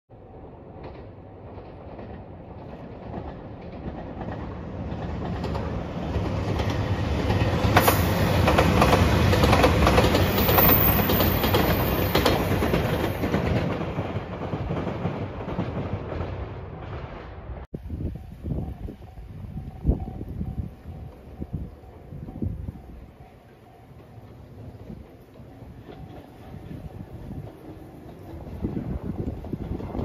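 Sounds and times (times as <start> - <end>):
diesel train passing: 0.1 - 30.0
wheels clacking over rail joints: 0.6 - 17.6, 21.0 - 30.0.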